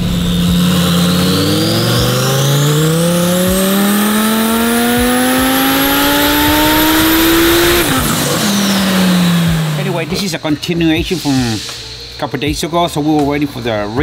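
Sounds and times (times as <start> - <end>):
car engine revving: 0.0 - 12.1
high turbo whine: 0.0 - 14.0.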